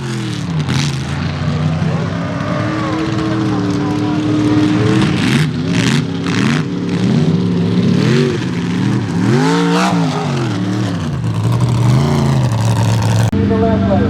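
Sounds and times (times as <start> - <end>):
truck engine revving hard: 0.0 - 13.4.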